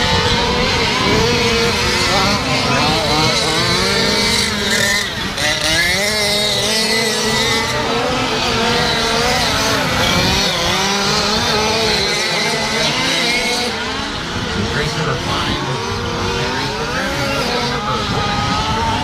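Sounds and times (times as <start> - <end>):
small two-stroke engines revving: 0.0 - 19.0.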